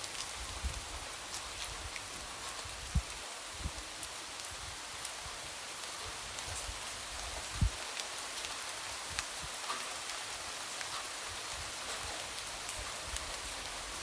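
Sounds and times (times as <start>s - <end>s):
light rain falling: 0.0s - 14.0s.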